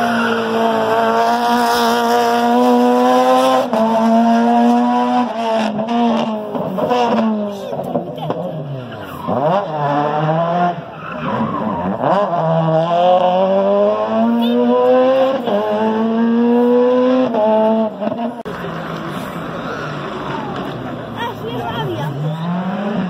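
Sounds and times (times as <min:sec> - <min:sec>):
rally car engine accelerating: 0:00.0 - 0:23.0.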